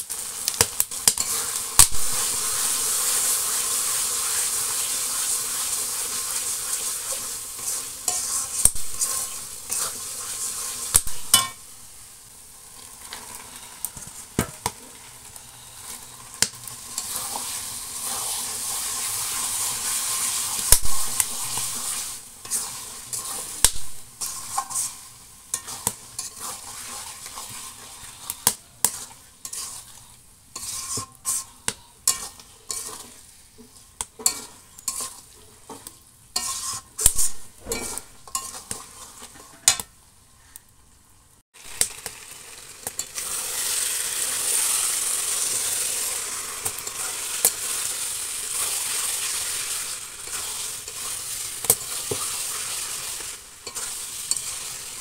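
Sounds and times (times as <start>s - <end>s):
meat sizzling in hot oil: 0.0s - 40.1s, 41.6s - 55.0s
metal spatula scraping pan: 1.1s - 11.6s, 14.8s - 39.8s, 45.4s - 55.0s.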